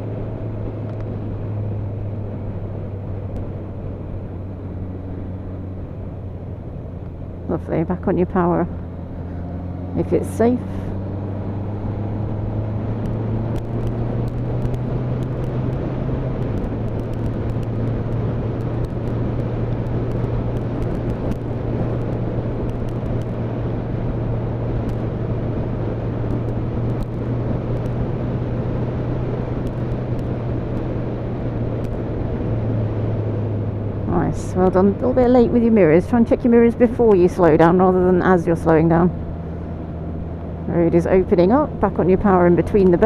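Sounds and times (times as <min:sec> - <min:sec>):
motorcycle engine running: 0:00.0 - 0:43.0
road noise: 0:00.0 - 0:43.0
wind rush: 0:08.4 - 0:43.0.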